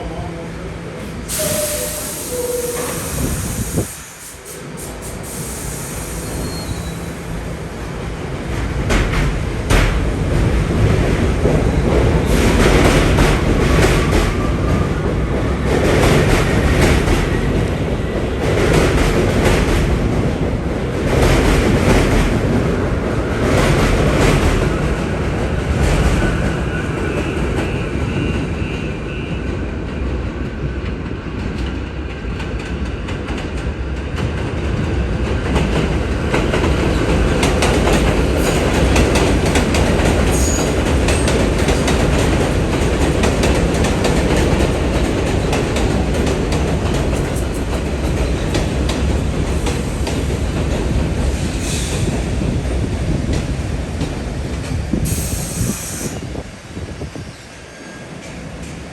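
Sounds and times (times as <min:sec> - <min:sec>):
subway train wheels clattering: 0:00.0 - 0:58.9.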